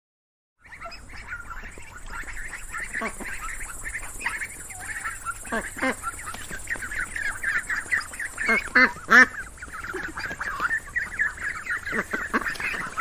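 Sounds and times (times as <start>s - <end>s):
flock of ducks quacking: 0.6s - 13.0s.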